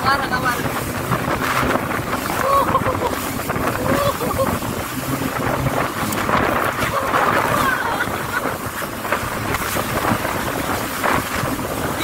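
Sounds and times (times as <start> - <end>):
jet ski engine running: 0.0 - 12.0
wind rushing over microphone: 0.0 - 12.0.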